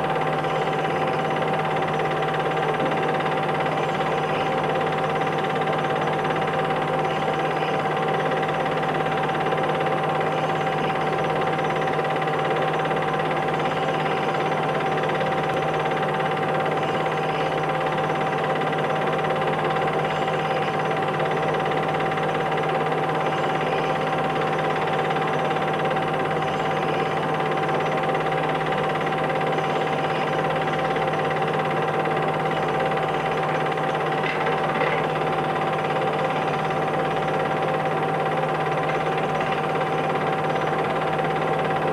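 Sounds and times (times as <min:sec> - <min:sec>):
constant low hum: 0:00.0 - 0:41.9.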